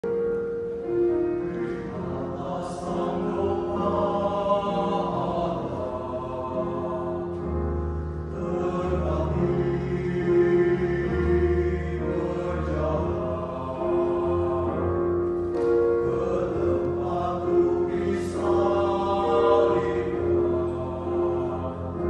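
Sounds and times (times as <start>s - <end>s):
piano accompaniment: 0.0s - 22.0s
choir singing: 0.5s - 22.0s.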